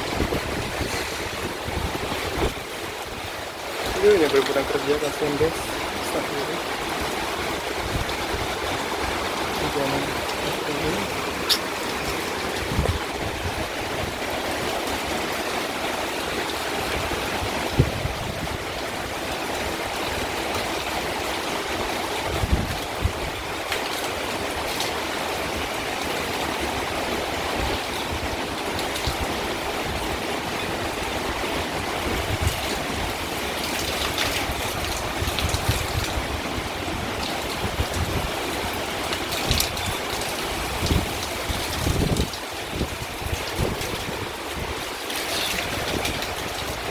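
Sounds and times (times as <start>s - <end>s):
gusty wind rumbles: 0.0s - 20.9s, 21.7s - 23.7s, 27.4s - 46.9s
heavy rain pouring: 0.0s - 46.9s.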